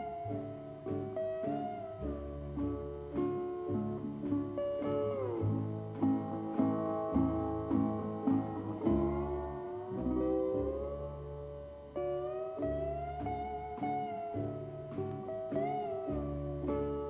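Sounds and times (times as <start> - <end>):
plucked guitar notes: 0.0 - 17.0.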